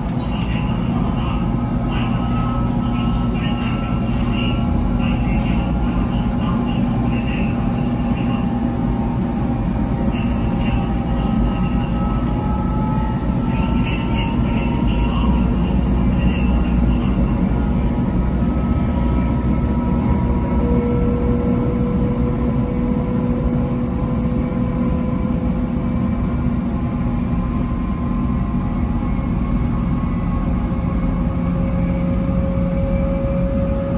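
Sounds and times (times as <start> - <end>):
constant hum: 0.0 - 33.9
train wheels rumbling: 0.0 - 33.9.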